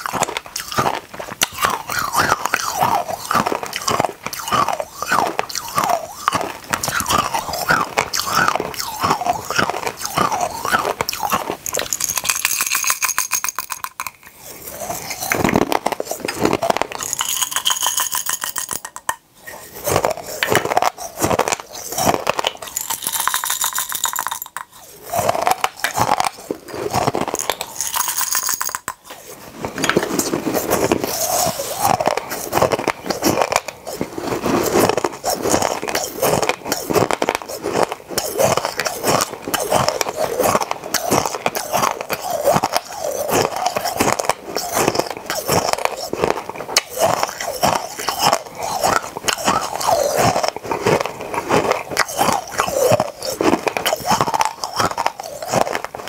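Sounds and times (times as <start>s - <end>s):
candies rattling in glass bottles: 0.0s - 56.0s
crunching hard candies: 0.0s - 56.0s.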